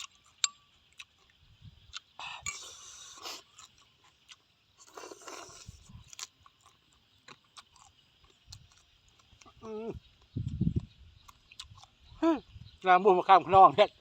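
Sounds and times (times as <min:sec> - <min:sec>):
crunchy chewing: 0:00.0 - 0:12.9.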